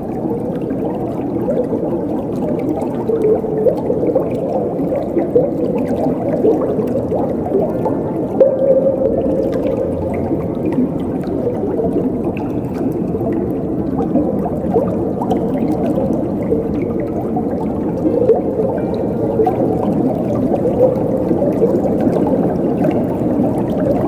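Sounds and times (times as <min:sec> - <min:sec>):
faint ticking droplets: 0:00.0 - 0:24.0
running water churning: 0:00.0 - 0:24.0.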